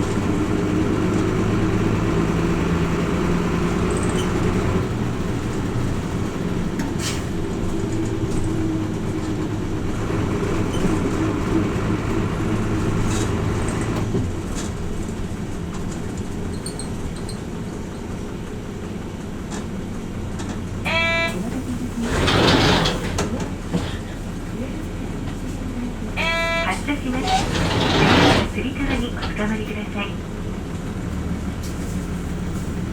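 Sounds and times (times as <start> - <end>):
bus diesel engine running: 0.0 - 32.9.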